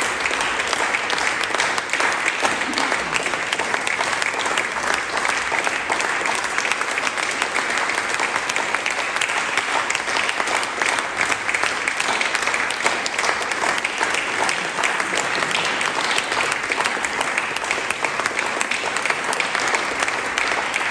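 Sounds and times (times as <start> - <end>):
audience applauding: 0.0 - 20.9.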